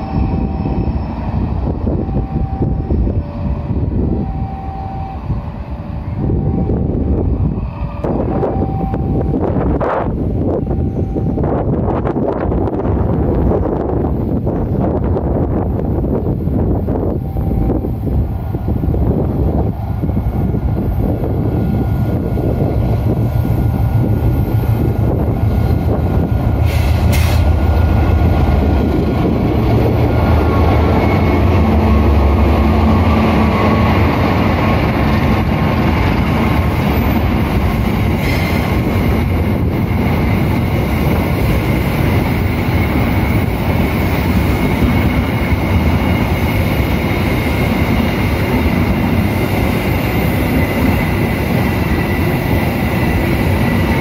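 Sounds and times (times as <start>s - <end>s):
train carriages rolling by: 0.0s - 6.6s, 7.4s - 54.0s
diesel locomotive engine rumble: 0.0s - 54.0s.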